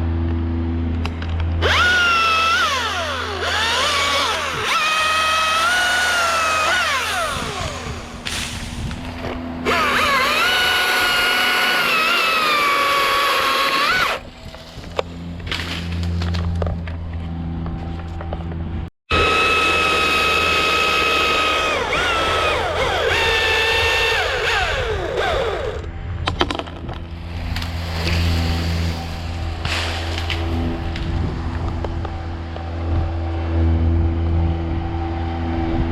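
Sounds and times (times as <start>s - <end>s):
electric chainsaw cutting wood: 0.2s - 17.4s, 19.1s - 26.5s, 27.1s - 35.9s.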